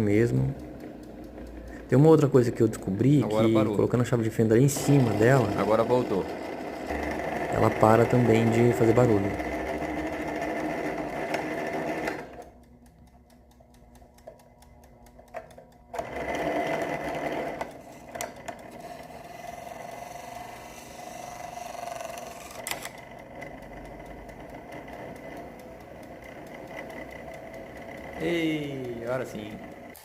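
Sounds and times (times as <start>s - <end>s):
fan motor whirring with rattle: 0.0s - 30.0s
sharp clicks: 0.0s - 30.0s.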